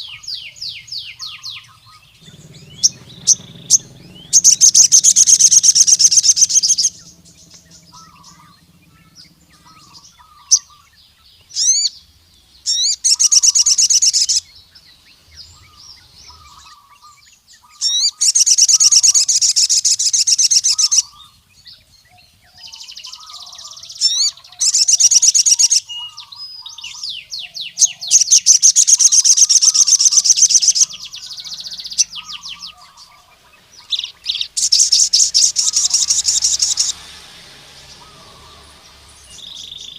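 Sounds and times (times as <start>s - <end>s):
bird trilled song: 0.0s - 39.9s
rising bird chirps: 0.0s - 39.9s.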